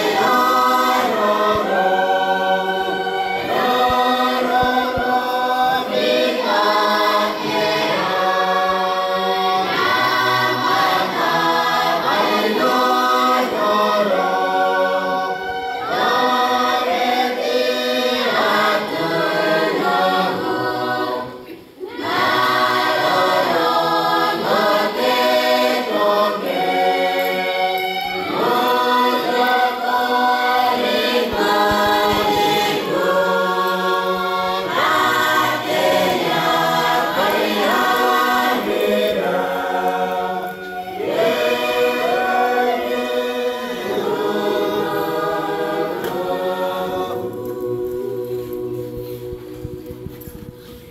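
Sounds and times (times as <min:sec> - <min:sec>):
congregation singing a hymn: 0:00.0 - 0:50.9.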